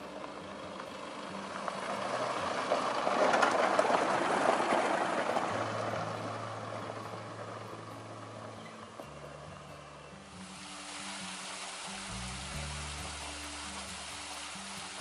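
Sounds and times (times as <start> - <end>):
diesel car driving past: 0.0 - 15.0.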